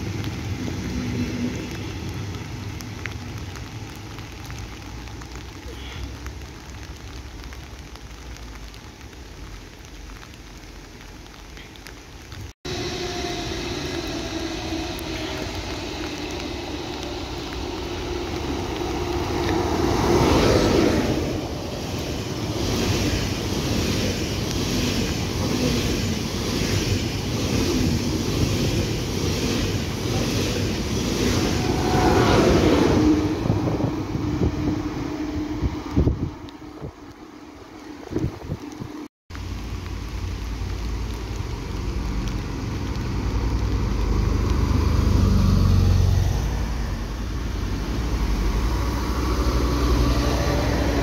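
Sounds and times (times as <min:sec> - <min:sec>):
high-speed train passing: 0:00.0 - 0:05.4, 0:12.6 - 0:39.1, 0:40.8 - 0:51.0
rain: 0:00.0 - 0:51.0.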